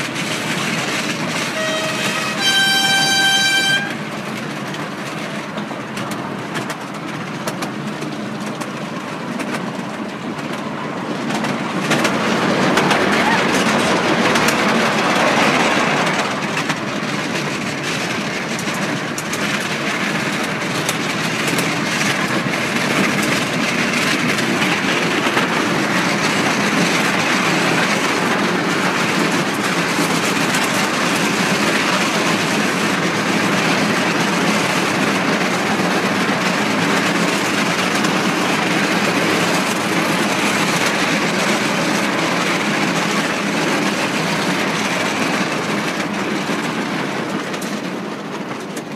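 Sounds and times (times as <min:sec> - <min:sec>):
miniature train wheels rattling on rails: 0:00.0 - 0:48.9.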